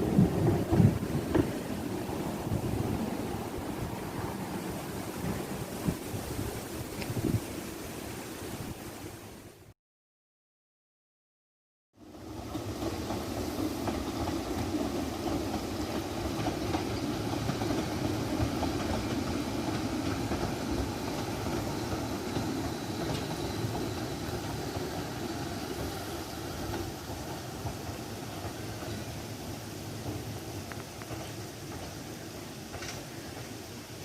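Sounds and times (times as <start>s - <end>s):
train wheels rumbling: 0.0s - 7.8s, 12.0s - 34.0s.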